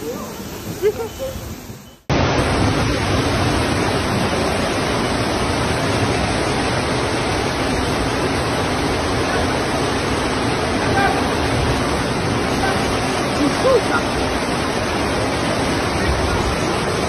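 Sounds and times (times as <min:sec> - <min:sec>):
rushing floodwater: 0:00.0 - 0:17.0.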